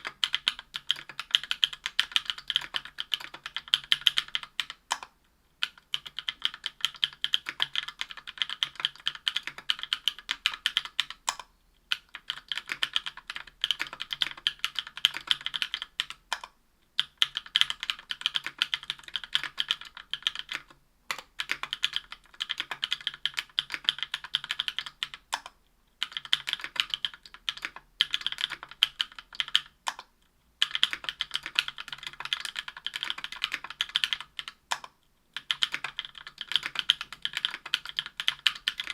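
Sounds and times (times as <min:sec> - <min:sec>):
typing on a mechanical keyboard: 0:00.0 - 0:38.9.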